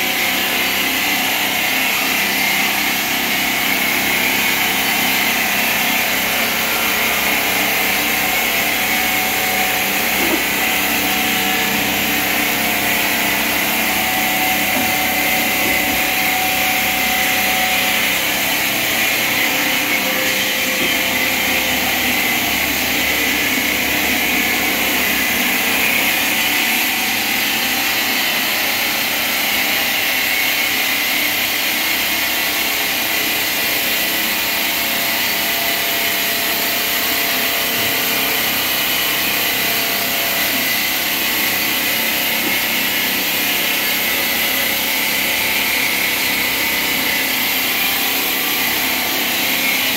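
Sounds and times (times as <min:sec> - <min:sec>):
factory machinery whine and hiss: 0:00.0 - 0:49.9.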